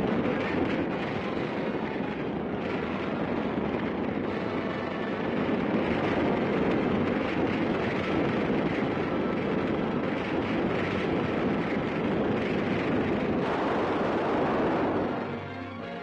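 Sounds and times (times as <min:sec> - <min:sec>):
oil fire rushing: 0:00.0 - 0:15.4.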